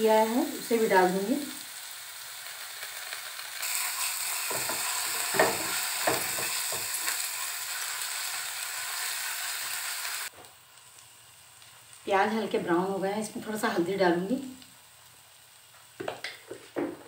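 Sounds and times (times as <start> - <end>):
food sizzling in hot oil: 0.0 - 16.4.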